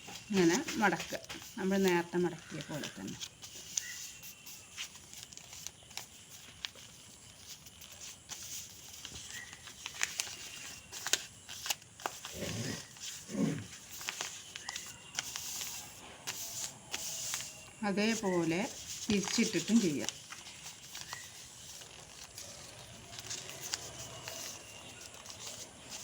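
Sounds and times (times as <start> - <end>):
paper rustling: 0.0 - 26.0.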